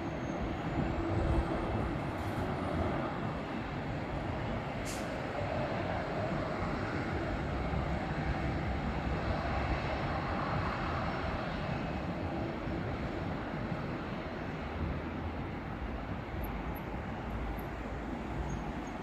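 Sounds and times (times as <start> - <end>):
jet engines running: 0.1 - 19.0.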